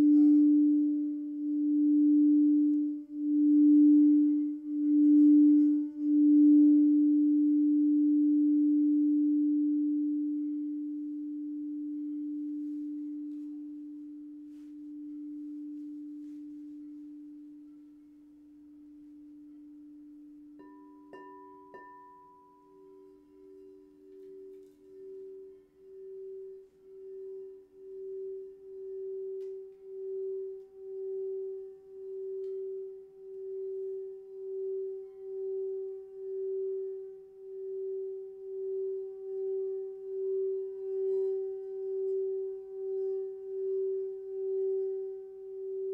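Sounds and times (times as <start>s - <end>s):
singing bowl low tone ringing: 0.0s - 45.9s
singing bowl rim played pulsing: 0.0s - 45.9s.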